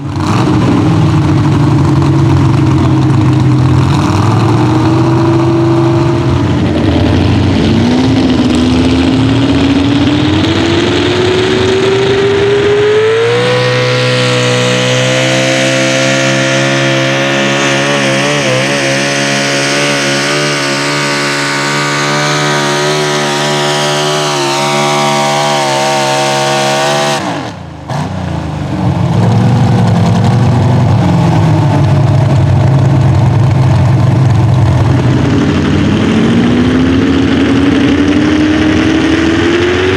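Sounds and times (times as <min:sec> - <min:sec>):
pulling truck engine under load: 0:00.0 - 0:39.6.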